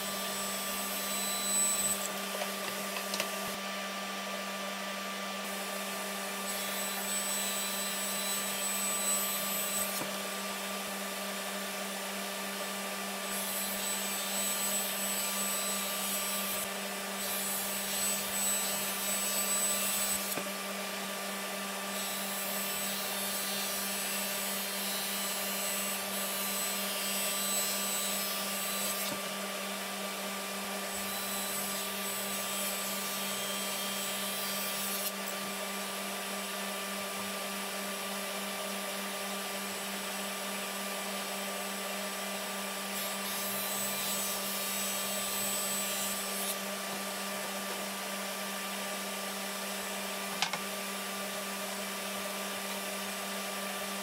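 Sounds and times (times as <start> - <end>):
electric power tool motor humming: 0.0 - 51.0.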